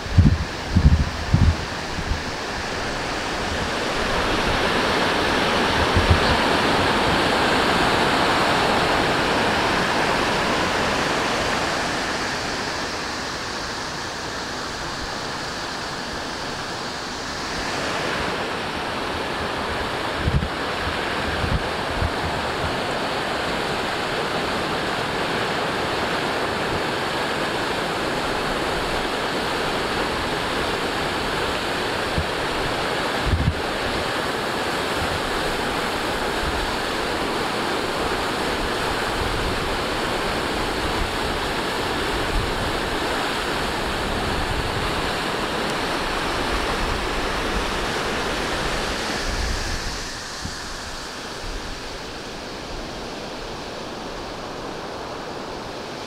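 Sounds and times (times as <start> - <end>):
wind buffeting microphone: 0.0 - 27.0, 28.0 - 56.0
rushing water: 0.0 - 56.0.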